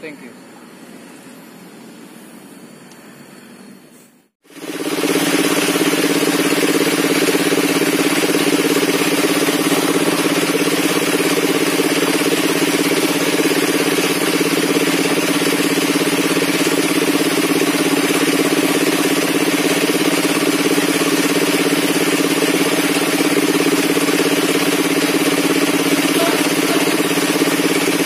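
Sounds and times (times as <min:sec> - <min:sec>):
circular saw idling: 0:04.5 - 0:28.0.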